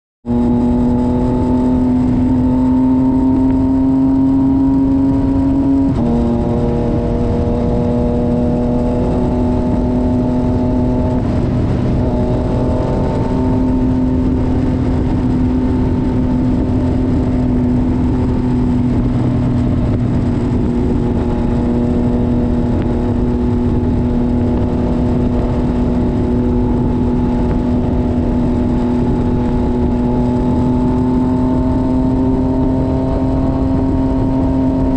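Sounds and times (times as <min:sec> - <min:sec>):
motorcycle engine running: 0:00.2 - 0:34.9
wind rush: 0:00.2 - 0:34.9.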